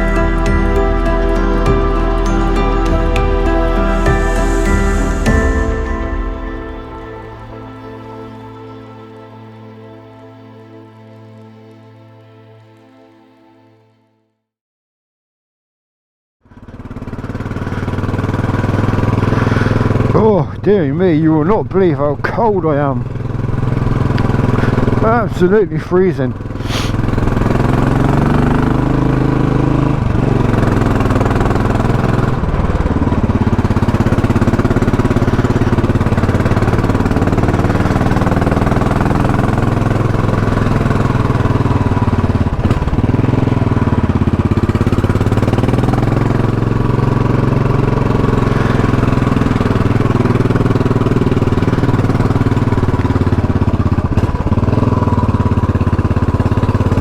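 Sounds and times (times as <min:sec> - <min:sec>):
motorcycle engine running: 0:00.0 - 0:08.5, 0:16.4 - 0:57.0.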